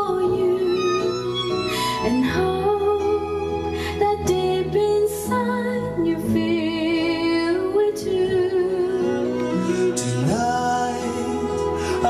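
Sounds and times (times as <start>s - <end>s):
slow melody with vibrato: 0.0s - 12.0s.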